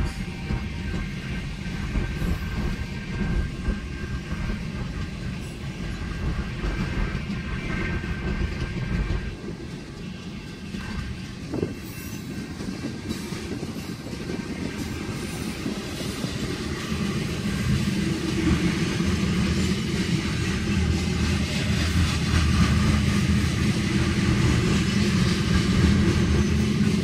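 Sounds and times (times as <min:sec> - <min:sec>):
freight train wheels rumbling on rail: 0:00.0 - 0:27.0.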